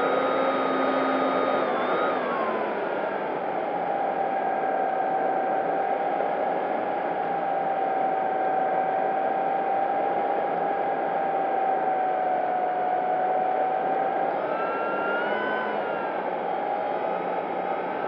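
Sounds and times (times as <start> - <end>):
electric motor and propeller whine: 0.0 - 18.0.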